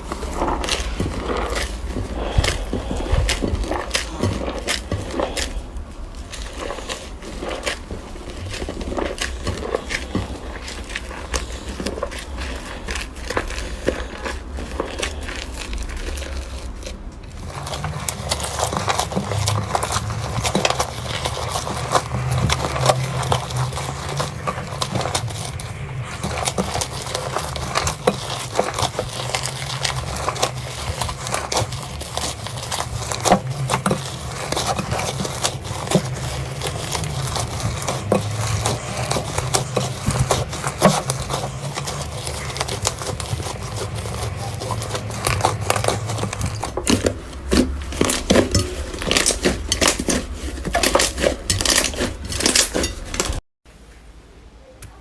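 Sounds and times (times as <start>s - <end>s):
slime crackling and popping: 0.0s - 53.4s.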